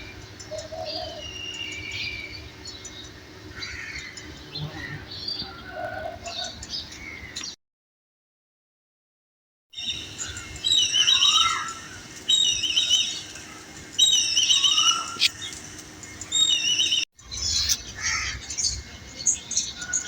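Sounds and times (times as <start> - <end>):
songbird warbling: 0.0 - 7.5, 9.8 - 20.0
birds chirping: 0.0 - 7.6, 9.8 - 20.0.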